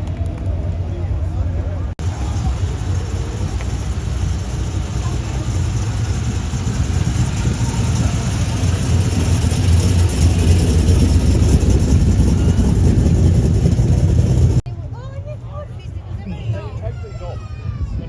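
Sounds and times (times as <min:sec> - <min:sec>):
car engine idling: 0:00.0 - 0:14.7.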